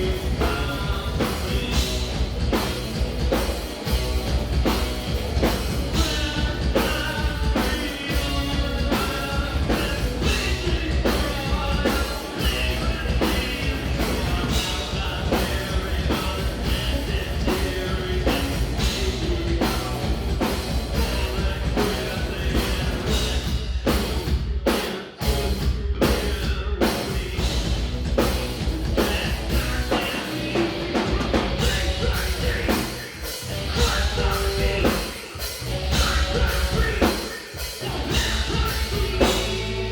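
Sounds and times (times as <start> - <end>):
drum kit: 0.0 - 39.9
metal band playing live: 0.0 - 39.9.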